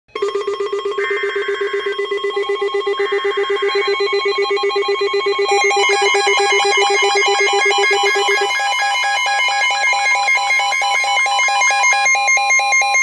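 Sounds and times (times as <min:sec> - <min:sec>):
fast-pulsing electronic alarm trill: 0:00.1 - 0:13.0
screeching digital header data: 0:00.2 - 0:13.0.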